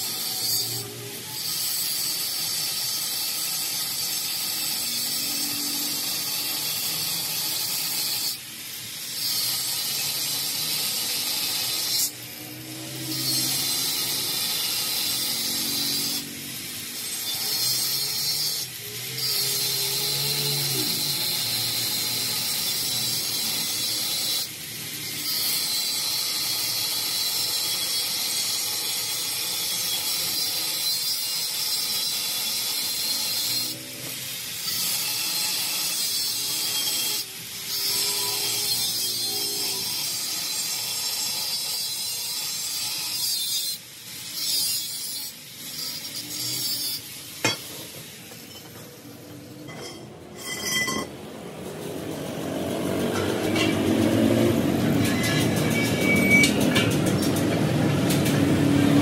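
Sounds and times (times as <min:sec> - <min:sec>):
angle grinder cutting metal: 0:00.0 - 0:59.0.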